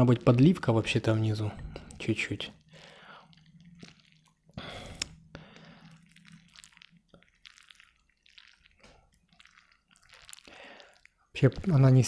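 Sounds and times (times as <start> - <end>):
wet noodle squishes: 0.0 - 12.0.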